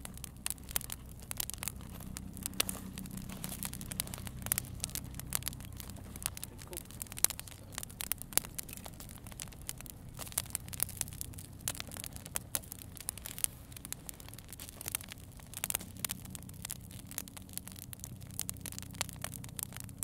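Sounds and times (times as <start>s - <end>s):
campfire crackling and popping: 0.0s - 20.0s
low steady hum: 0.0s - 20.0s.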